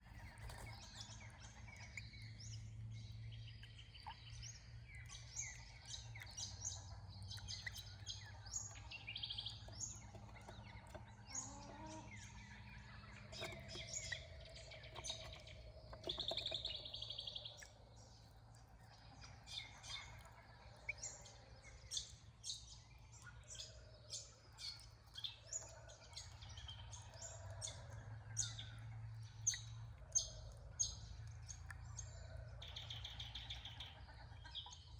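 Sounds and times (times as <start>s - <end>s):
birds chirping and calling: 0.1s - 34.9s.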